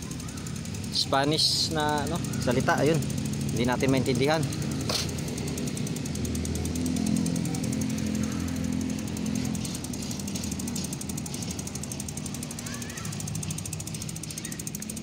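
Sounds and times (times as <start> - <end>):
bicycle freewheel ticking: 0.0 - 15.0.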